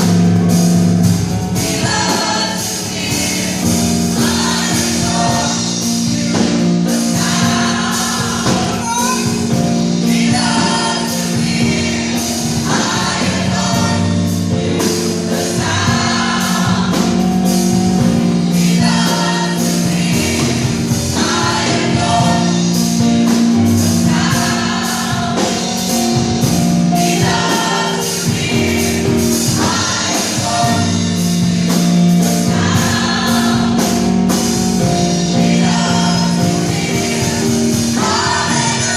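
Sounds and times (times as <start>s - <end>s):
gospel choir singing with band: 0.0s - 38.9s.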